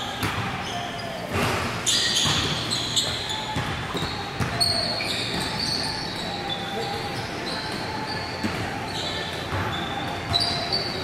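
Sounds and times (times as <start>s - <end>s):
basketballs bouncing: 0.0s - 11.0s
shoe squeaks: 0.0s - 11.0s.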